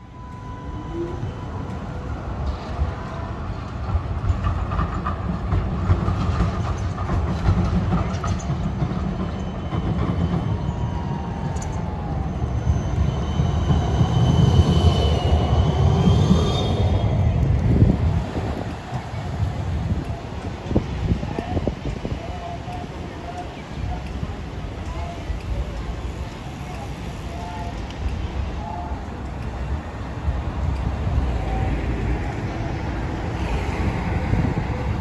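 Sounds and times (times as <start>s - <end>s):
trams rumbling on rails: 0.0s - 35.0s.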